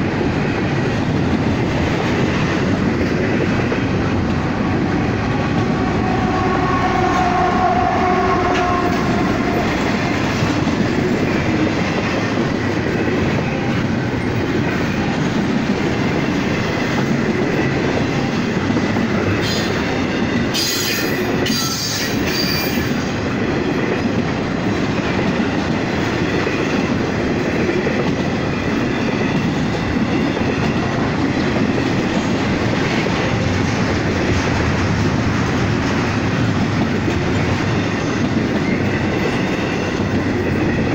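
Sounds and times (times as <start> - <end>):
diesel locomotive tone: 0.0 - 40.9
train wheels rumbling and clattering: 0.0 - 40.9.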